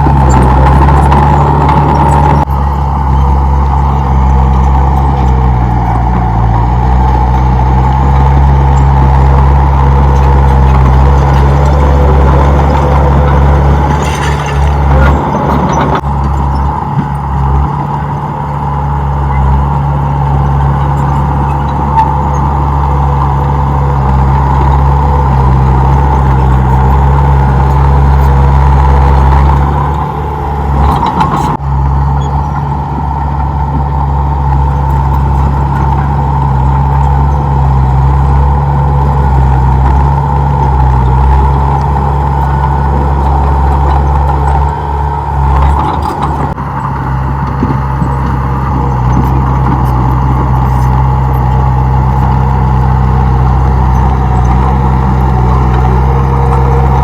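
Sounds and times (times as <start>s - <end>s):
bulldozer diesel engine running: 0.0s - 57.0s
constant whine: 0.0s - 57.0s.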